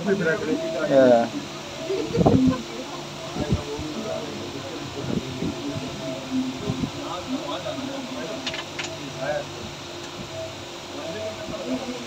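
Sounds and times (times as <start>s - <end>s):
ropeway cabin running noise: 0.0s - 12.0s.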